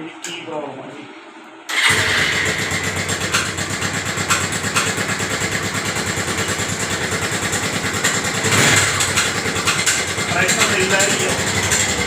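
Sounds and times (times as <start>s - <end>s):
motorcycle engine idling with ticking: 1.8s - 12.0s.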